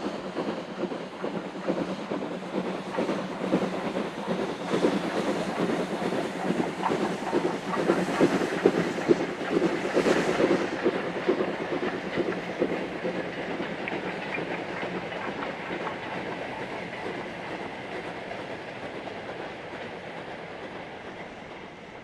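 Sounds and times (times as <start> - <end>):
train wheels clattering: 0.0 - 22.0.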